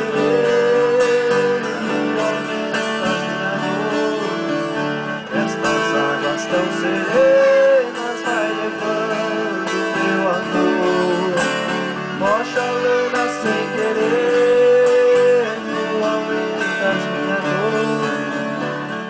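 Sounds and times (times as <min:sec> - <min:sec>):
acoustic guitars strumming: 0:00.0 - 0:19.0.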